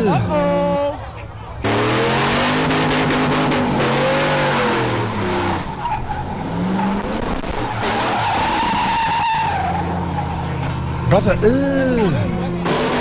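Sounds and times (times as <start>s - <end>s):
car engine revving: 0.0s - 13.0s
tyres skidding and squealing: 0.0s - 13.0s.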